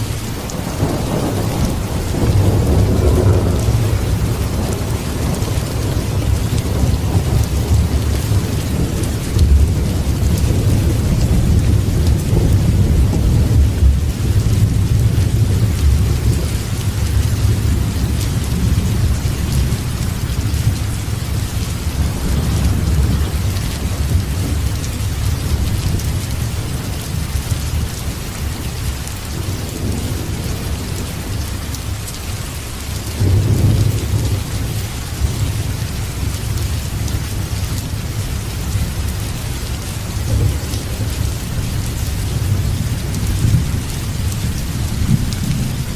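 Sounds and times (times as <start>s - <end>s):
thunder rumbling: 0.0s - 32.2s, 32.8s - 45.9s
heavy rain: 0.0s - 45.9s.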